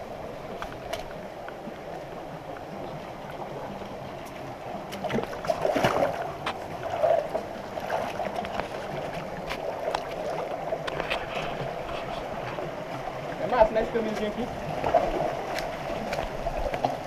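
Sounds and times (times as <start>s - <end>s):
creek babbling: 0.0s - 17.0s
water splashing and sloshing: 0.0s - 17.0s.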